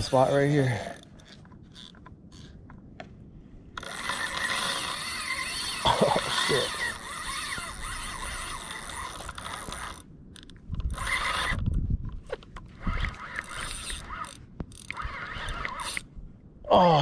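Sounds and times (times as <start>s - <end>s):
fishing reel running: 0.0s - 2.6s, 3.8s - 11.6s, 12.8s - 16.1s.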